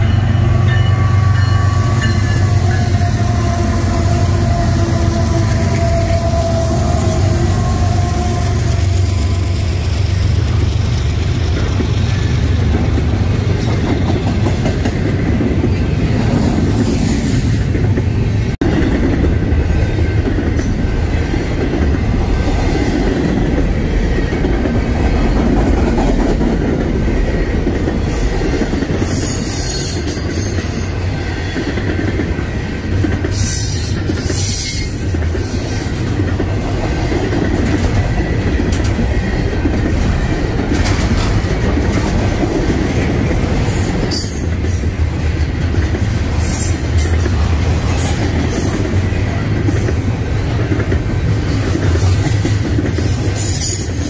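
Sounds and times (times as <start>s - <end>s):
train wheels rumbling on rail: 0.0s - 54.0s
clickety-clack over rail joints: 10.0s - 54.0s.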